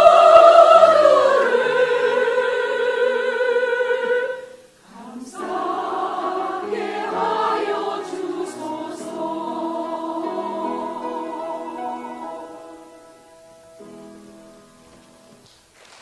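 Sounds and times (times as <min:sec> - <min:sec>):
church choir singing a hymn: 0:00.0 - 0:13.9.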